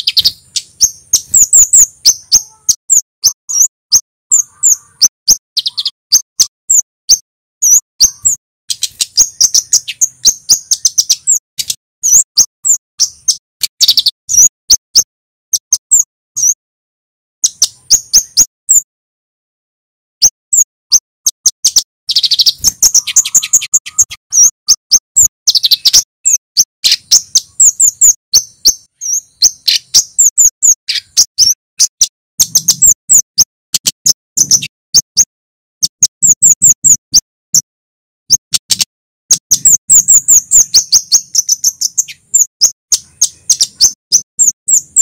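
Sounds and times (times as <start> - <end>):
dry buzzy bird trills: 0.0 - 16.6, 17.4 - 18.9, 20.2 - 45.0
high sharp bird chirps: 0.0 - 16.6, 17.4 - 18.9, 20.2 - 45.0.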